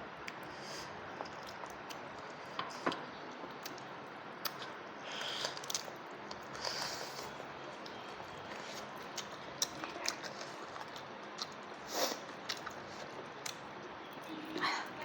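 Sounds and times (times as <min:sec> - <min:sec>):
chewing and mouth noises: 0:01.1 - 0:15.0.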